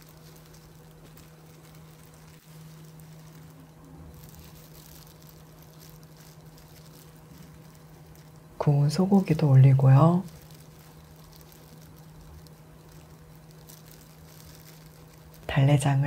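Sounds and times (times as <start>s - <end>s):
low hum with hiss: 0.0s - 16.0s.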